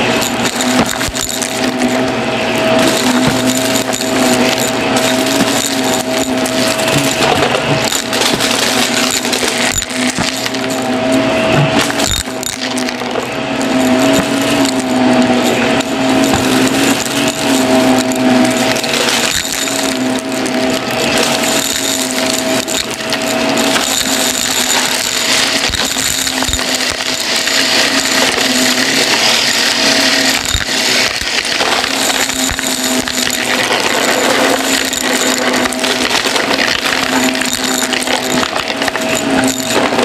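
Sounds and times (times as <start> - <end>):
debris crackling through nozzle: 0.0 - 40.0
vacuum cleaner motor hum: 0.0 - 40.0.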